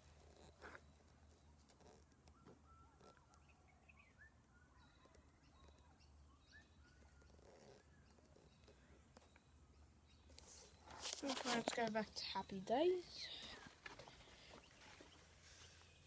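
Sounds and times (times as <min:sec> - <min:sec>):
faint bird chirps: 0:00.3 - 0:16.0.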